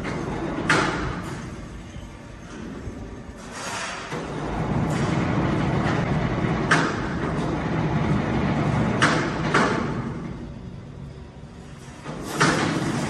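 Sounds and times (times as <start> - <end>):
sawmill machinery rumbling: 0.0 - 13.0.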